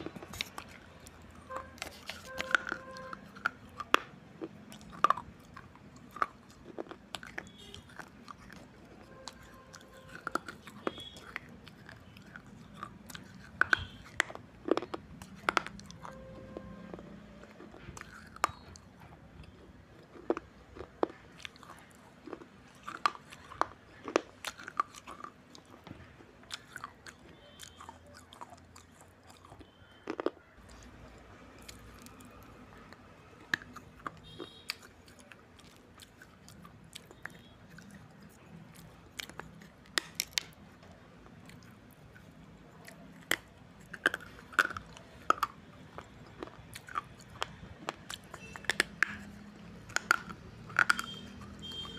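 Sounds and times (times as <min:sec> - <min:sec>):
clay crunching between teeth: 0:00.0 - 0:51.9
quiet chewing: 0:00.0 - 0:51.9.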